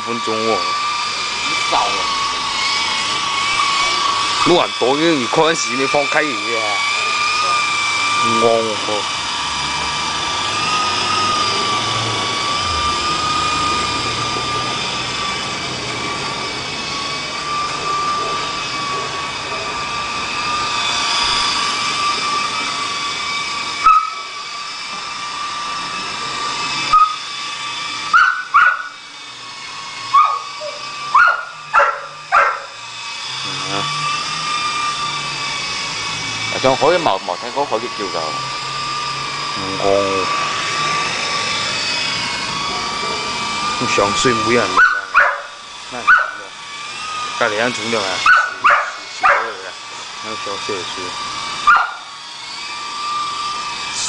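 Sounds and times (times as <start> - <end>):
rc helicopter motor whine: 0.0 - 54.0
rotor noise: 0.0 - 54.0.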